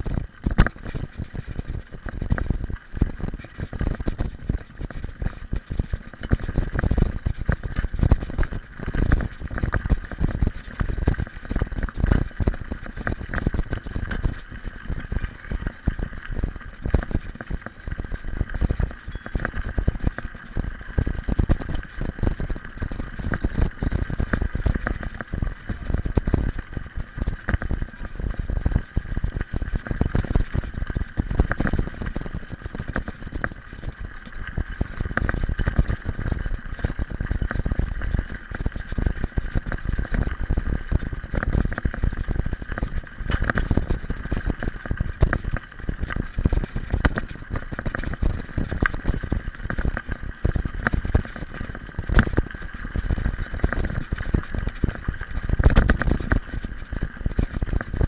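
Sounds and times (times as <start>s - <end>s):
bicycle rattling over stones: 0.0s - 58.0s
bicycle tyres crunching on gravel: 0.1s - 58.0s.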